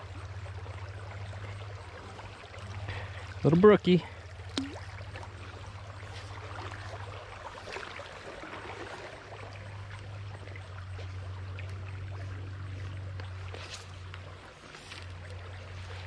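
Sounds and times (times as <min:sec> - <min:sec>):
constant low rumble: 0:00.0 - 0:16.0.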